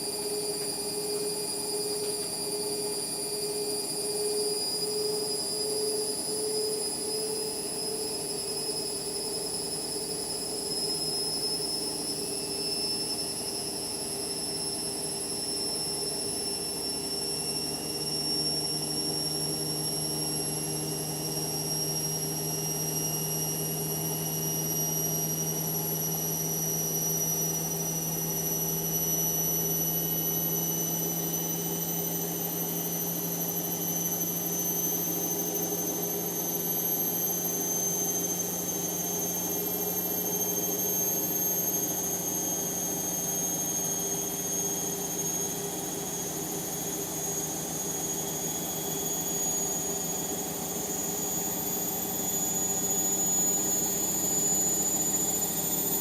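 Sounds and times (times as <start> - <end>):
washing machine motor whining: 0.0 - 56.0.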